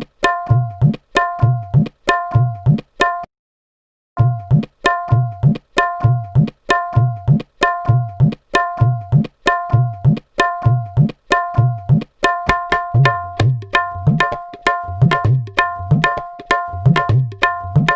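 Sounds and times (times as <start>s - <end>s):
tabla rhythm: 0.0s - 3.3s, 4.2s - 17.9s.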